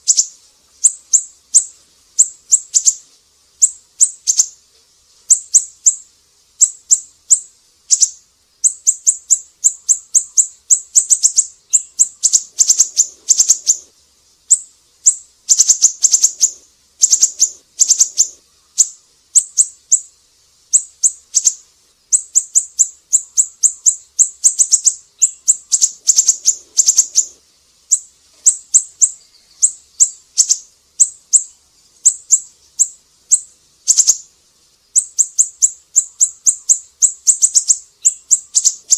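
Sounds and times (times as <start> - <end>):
bird singing high sharp chirps: 0.0 - 3.0, 3.6 - 4.6, 5.3 - 6.0, 6.6 - 13.9, 14.5 - 20.1, 20.7 - 34.3, 34.9 - 38.9.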